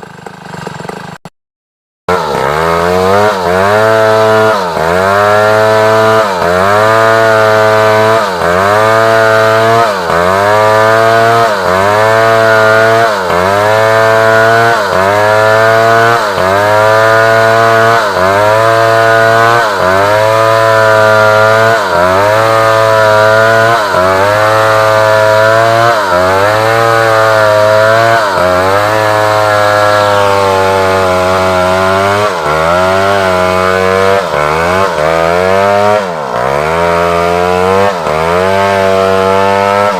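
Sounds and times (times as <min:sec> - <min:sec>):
chainsaw cutting wood: 0:00.0 - 0:01.3, 0:02.1 - 0:39.9.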